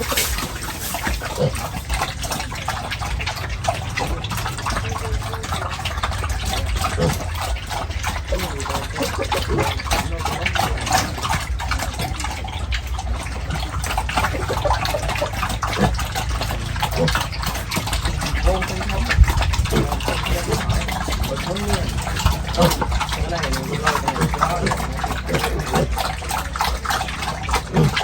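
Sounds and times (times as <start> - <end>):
low steady rumble: 0.0 - 28.0
water gushing and splashing: 0.0 - 28.0.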